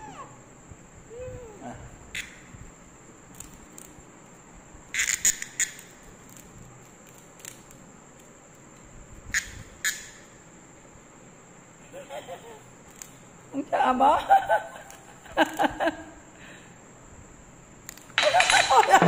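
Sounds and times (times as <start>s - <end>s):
cicada buzzing: 0.0s - 15.9s.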